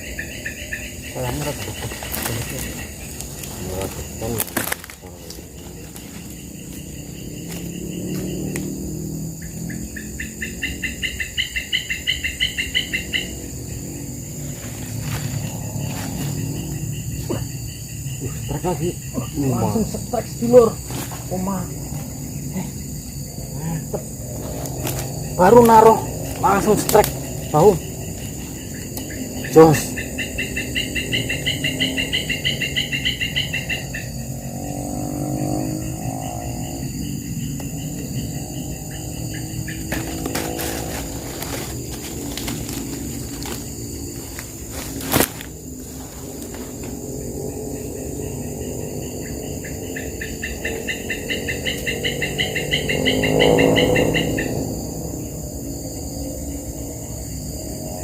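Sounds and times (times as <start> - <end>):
distant engine hum: 0.0 - 58.0
insects buzzing: 0.0 - 58.0.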